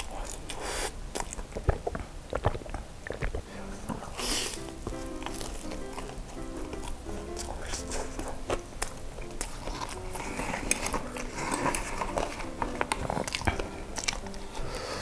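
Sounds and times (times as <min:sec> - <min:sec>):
chewing crispy fried chicken: 0:00.0 - 0:15.0
crust crackling: 0:00.0 - 0:15.0
quiet background music: 0:00.0 - 0:15.0.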